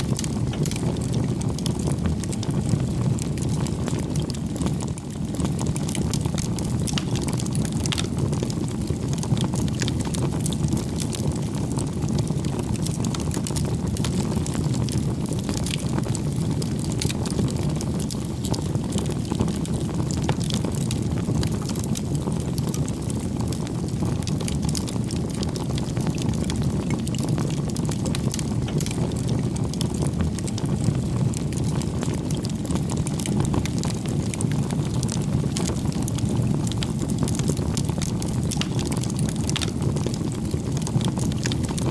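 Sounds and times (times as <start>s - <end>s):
campfire flames rumbling: 0.0s - 41.9s
wood crackling and popping: 0.0s - 41.9s.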